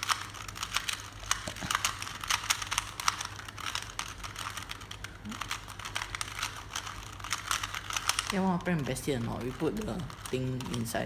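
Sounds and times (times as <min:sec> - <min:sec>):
puzzle cube plastic clicks: 0:00.0 - 0:11.0.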